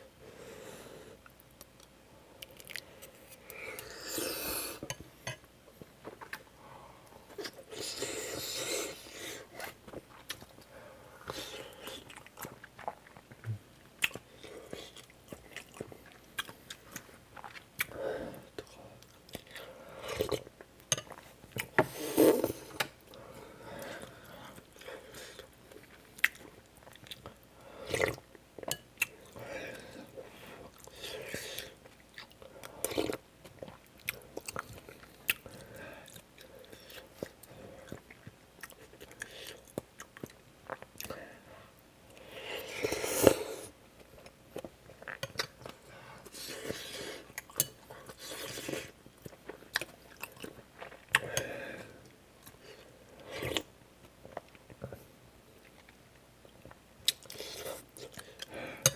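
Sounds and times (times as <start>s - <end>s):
person chewing food: 1.2s - 6.5s, 7.2s - 58.9s.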